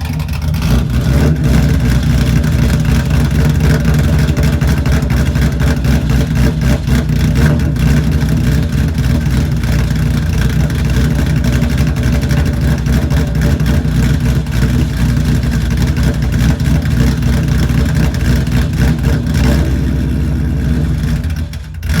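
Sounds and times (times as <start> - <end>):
car engine idling unevenly: 0.0 - 22.0.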